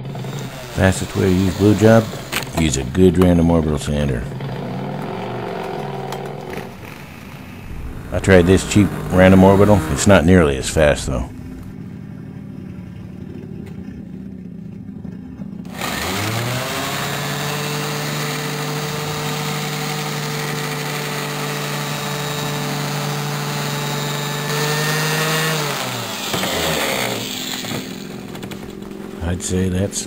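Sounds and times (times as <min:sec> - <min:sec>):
orbital sander whine: 0:00.0 - 0:12.1, 0:15.7 - 0:29.7.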